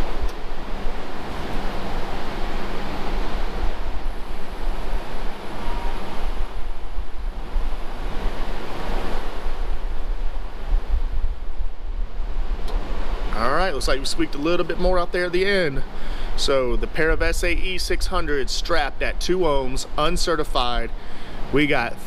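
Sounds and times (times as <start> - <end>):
low amplifier hum: 0.0 - 22.0
steady rushing noise: 0.0 - 22.0.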